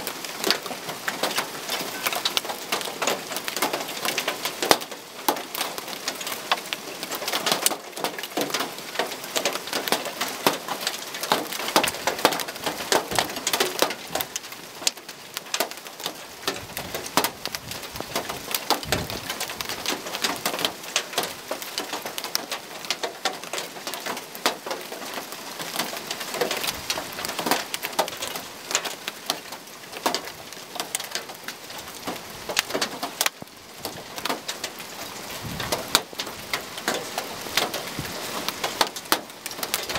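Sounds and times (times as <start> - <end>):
hail clattering on roof tiles: 0.0 - 39.9.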